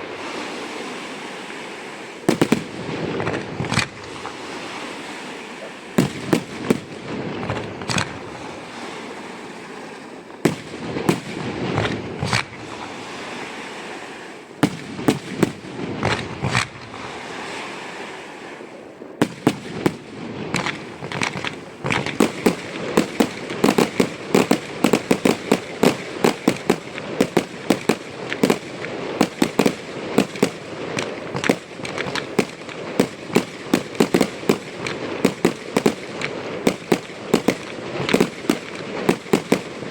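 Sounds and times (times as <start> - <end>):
firework bangs: 0.0 - 39.9
firework crackle: 0.0 - 39.9.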